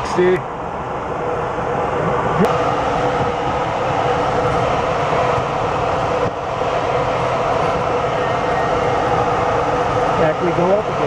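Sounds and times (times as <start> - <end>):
airflow rushing in cockpit: 0.0 - 11.0.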